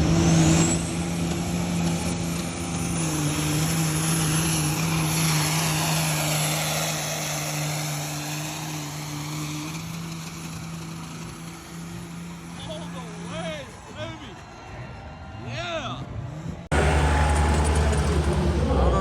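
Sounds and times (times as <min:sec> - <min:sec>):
diesel truck engine drone: 0:00.0 - 0:15.0, 0:16.0 - 0:19.0.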